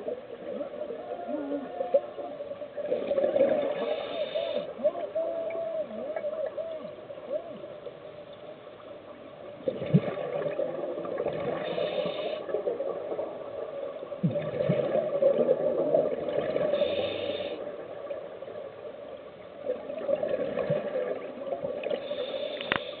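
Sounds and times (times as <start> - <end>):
underwater bubbles burbling: 0.0 - 7.7, 9.4 - 18.8, 19.6 - 22.2.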